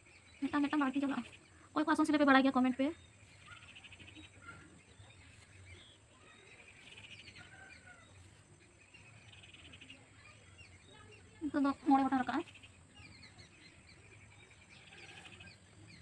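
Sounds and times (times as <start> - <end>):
faint bird chirps: 0.0 - 16.0
rapid bird trills: 0.0 - 16.0.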